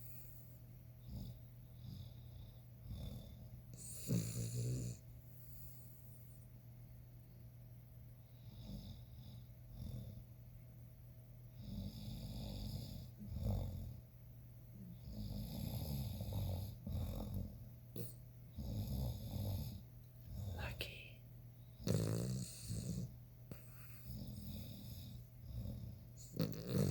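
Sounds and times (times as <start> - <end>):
dog snoring: 0.0 - 6.4, 8.2 - 10.4, 11.5 - 14.1, 14.8 - 21.1, 21.7 - 26.9.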